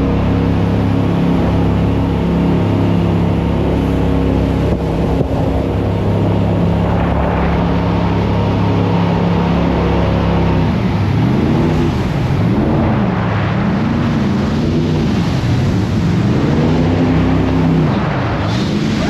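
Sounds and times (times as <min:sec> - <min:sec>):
jet boat engine revving: 0:00.0 - 0:19.0.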